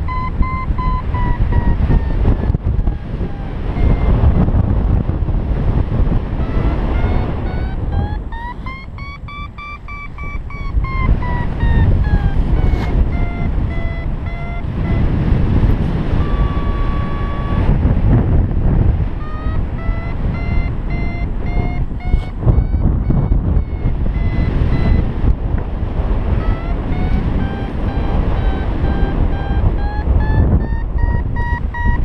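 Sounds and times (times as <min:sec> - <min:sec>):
variometer beeping: 0:00.0 - 0:18.1, 0:19.0 - 0:32.0
wind rush on microphone: 0:00.0 - 0:32.0.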